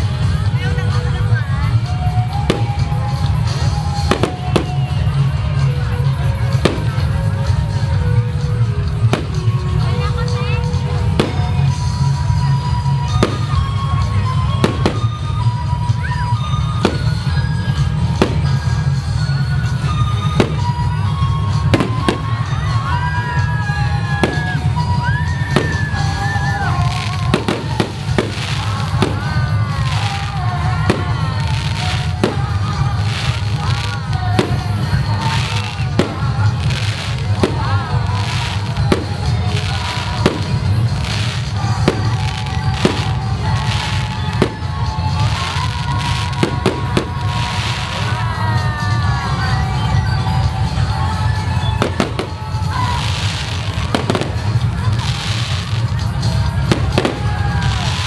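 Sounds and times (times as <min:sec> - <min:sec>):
fireworks bursting with sharp bangs: 0:00.0 - 0:58.0.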